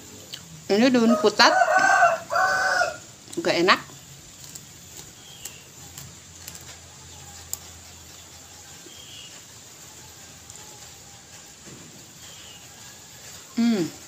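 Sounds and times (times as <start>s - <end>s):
chewing raw leaves: 1.6s - 14.0s.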